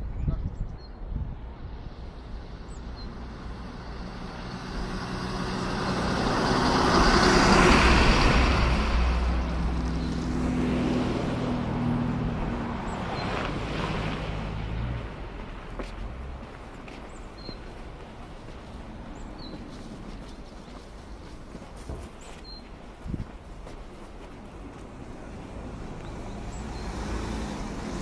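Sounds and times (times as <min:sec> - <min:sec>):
vehicle passing by: 0:01.6 - 0:21.3, 0:24.5 - 0:28.0.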